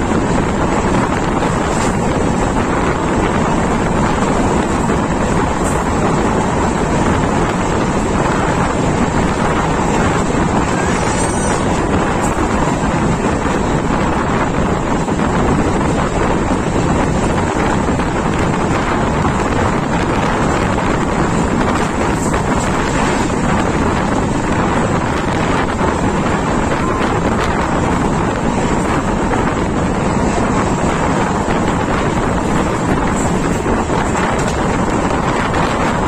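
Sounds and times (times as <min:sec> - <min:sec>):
train running on rails: 0:00.0 - 0:36.0
wind buffeting microphone: 0:00.0 - 0:36.0.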